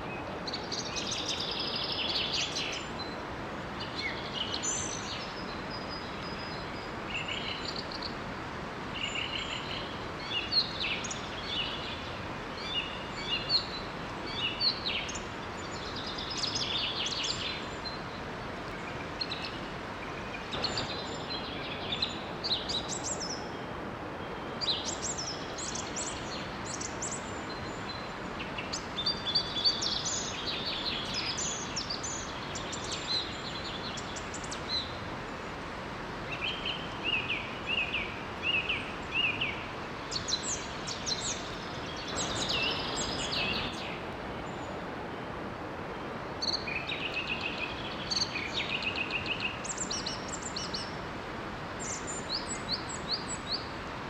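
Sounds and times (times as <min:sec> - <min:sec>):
rushing stream water: 0:00.0 - 0:54.0
songbirds chirping: 0:00.0 - 0:54.0.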